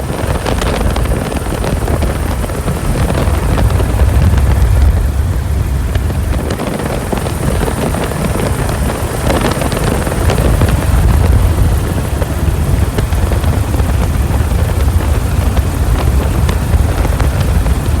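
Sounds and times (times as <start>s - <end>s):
helicopter rotor and engine noise: 0.0s - 18.0s.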